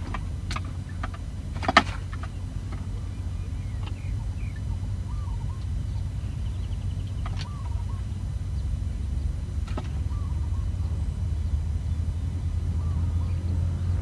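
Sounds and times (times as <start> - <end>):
birds chirping: 0.0 - 14.0
high bird trill: 0.0 - 14.0
steady low rumble: 0.0 - 14.0.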